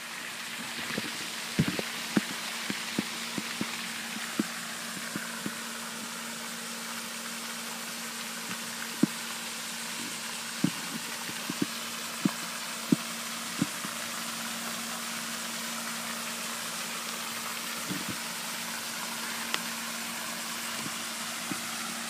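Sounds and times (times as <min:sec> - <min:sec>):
fountain water spraying: 0:00.0 - 0:22.0
low steady hum: 0:00.0 - 0:22.0.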